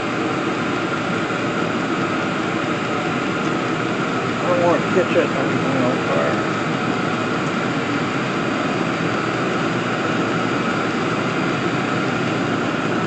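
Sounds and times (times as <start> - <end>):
air heater blower humming: 0.0 - 13.0.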